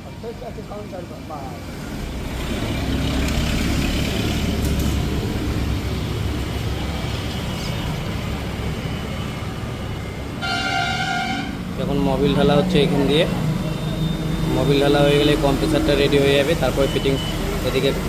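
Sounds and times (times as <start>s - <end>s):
vehicle engine rumble passing: 0.0s - 10.6s, 11.5s - 18.0s.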